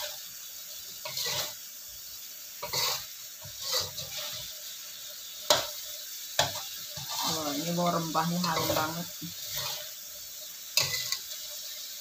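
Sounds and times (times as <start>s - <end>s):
metal spatula scraping a wok: 0.0s - 1.7s, 2.6s - 12.0s
food sizzling in a wok: 0.0s - 12.0s.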